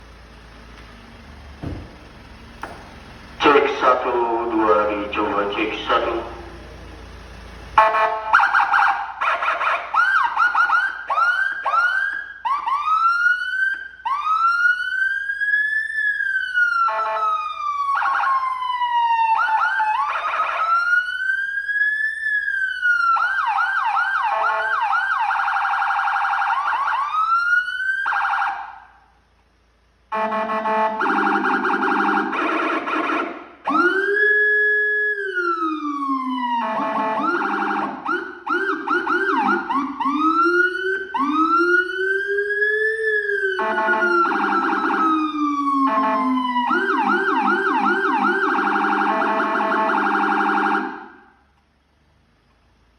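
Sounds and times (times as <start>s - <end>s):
electronic siren: 7.8s - 28.9s, 30.1s - 51.4s.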